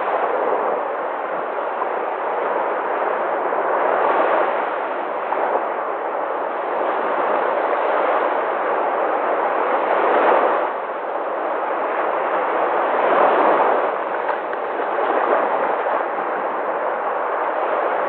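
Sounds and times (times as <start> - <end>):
sea waves breaking: 0.0 - 18.0.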